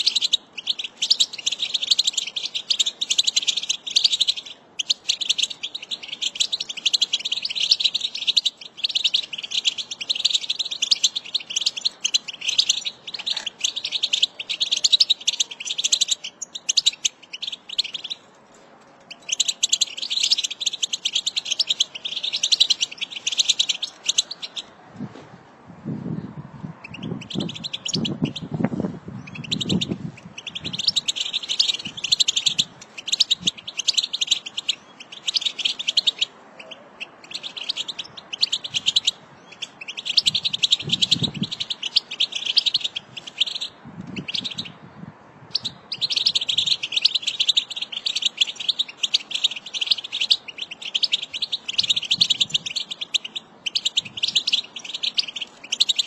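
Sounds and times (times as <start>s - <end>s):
goldfinch twittering song: 0.0s - 18.2s, 19.1s - 24.7s, 26.8s - 28.5s, 29.2s - 44.9s, 45.5s - 56.0s.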